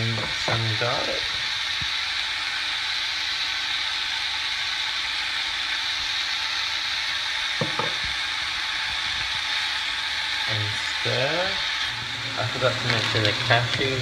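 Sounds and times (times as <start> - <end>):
mince sizzling in a pan: 0.0 - 14.0.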